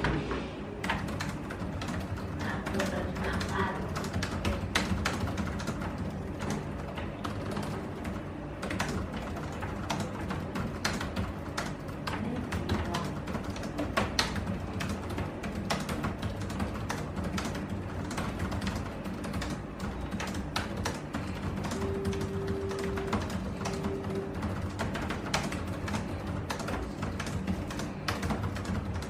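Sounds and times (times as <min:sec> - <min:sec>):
fast typing on laptop keyboard: 0:00.8 - 0:29.0.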